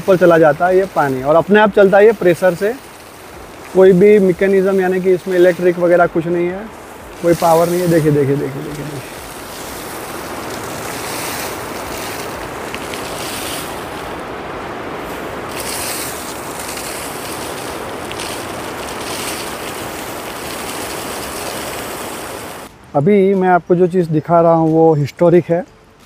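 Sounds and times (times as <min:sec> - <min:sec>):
fountain water splashing: 0:00.0 - 0:22.7.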